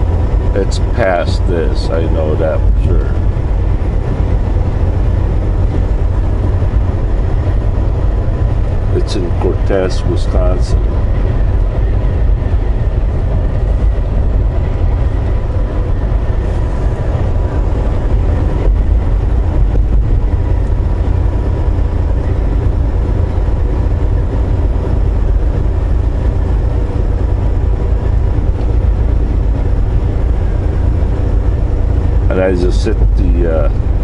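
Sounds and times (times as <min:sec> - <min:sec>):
faint steady whine: 0:00.0 - 0:34.0
truck engine and road rumble: 0:00.0 - 0:34.0.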